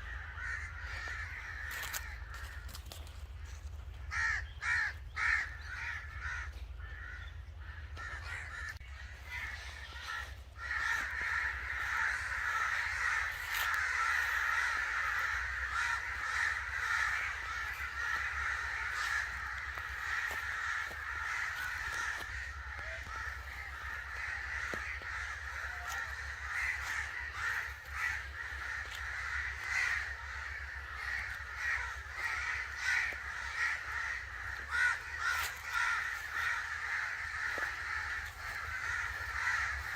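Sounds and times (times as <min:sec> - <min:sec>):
crows cawing: 0:00.0 - 0:39.9
low steady hum: 0:00.0 - 0:39.9.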